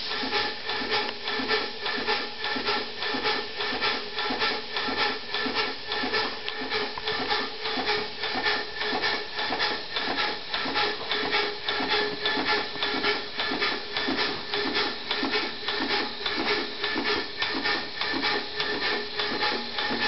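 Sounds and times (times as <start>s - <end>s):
model engine exhaust puffing: 0.0s - 20.0s.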